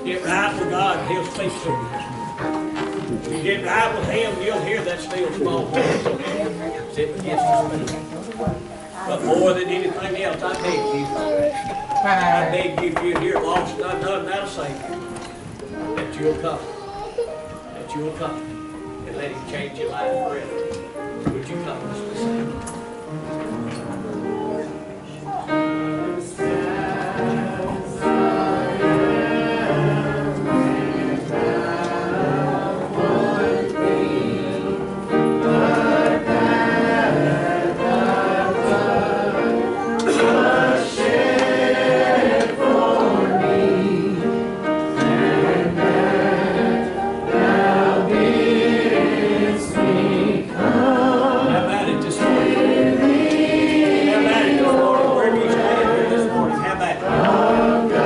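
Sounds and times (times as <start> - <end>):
congregation singing a hymn: 0.0 - 58.0.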